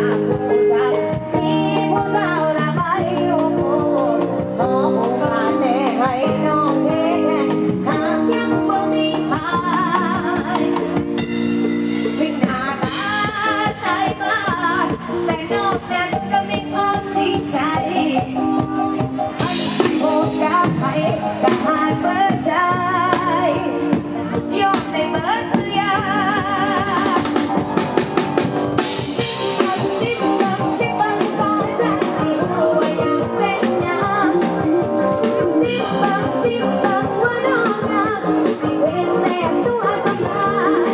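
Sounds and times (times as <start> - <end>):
drum kit beat: 0.0 - 40.9.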